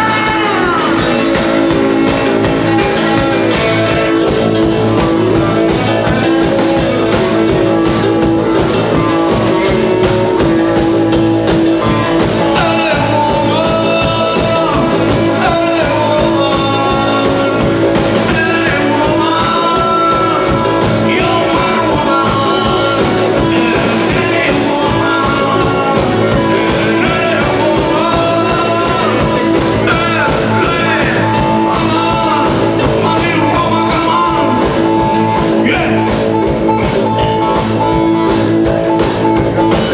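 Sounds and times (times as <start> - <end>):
guitar: 0.0 - 39.9
person singing: 0.0 - 39.9
rock band playing live: 0.0 - 39.9.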